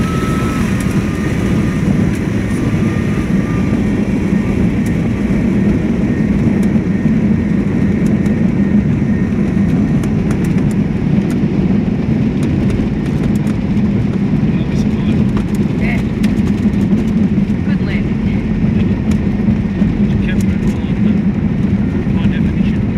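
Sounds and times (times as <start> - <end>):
airplane engine drone: 0.0 - 22.9.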